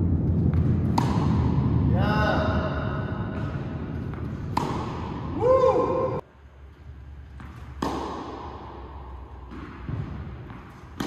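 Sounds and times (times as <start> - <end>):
racket hitting tennis ball: 0.1 - 1.9, 2.6 - 6.2, 7.1 - 11.0.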